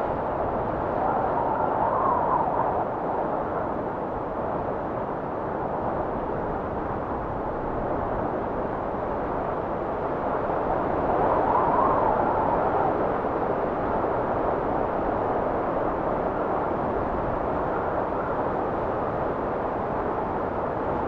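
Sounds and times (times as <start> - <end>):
blizzard wind blowing: 0.0 - 21.0.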